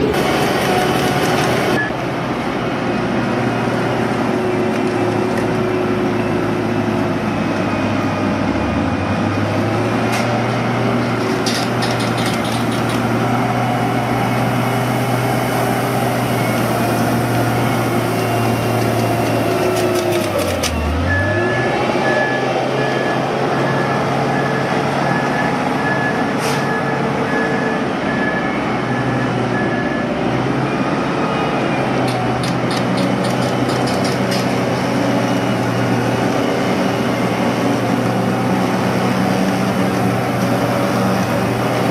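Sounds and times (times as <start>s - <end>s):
heavy machinery engine hum: 0.0s - 41.9s.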